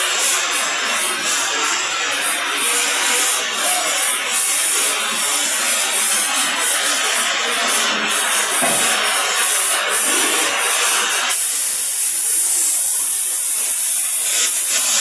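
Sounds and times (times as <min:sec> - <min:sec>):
cutting torch flame hissing: 0:00.0 - 0:15.0.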